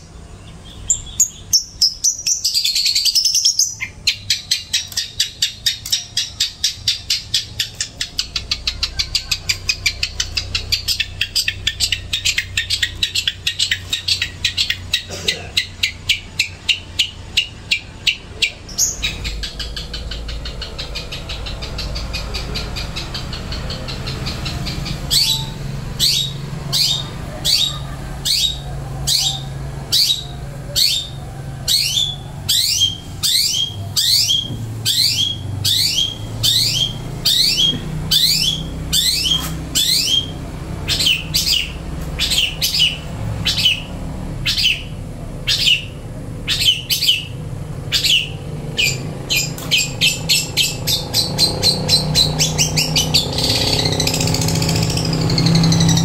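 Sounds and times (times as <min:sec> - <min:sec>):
songbird whistling calls: 0:00.8 - 0:56.0.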